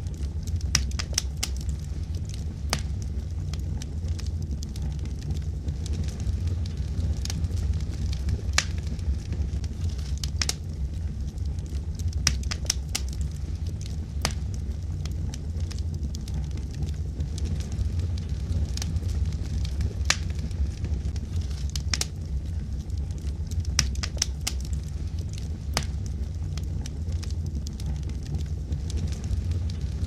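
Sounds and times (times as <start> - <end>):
low rumble of fire: 0.0 - 30.0
wood crackles and pops: 0.0 - 30.0.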